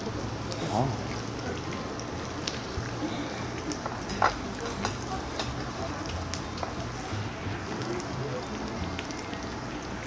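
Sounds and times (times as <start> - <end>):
meat sizzling and crackling on grill: 0.0 - 10.0.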